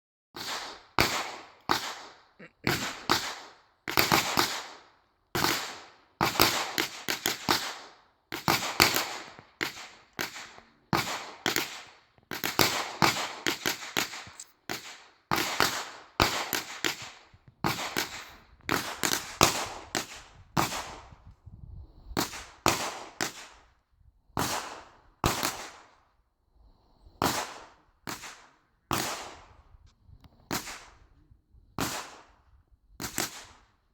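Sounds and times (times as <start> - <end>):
gunshots: 0.4 - 21.0, 22.2 - 23.6, 24.4 - 25.9, 27.2 - 29.6, 30.5 - 31.0, 31.8 - 32.4, 33.0 - 33.6.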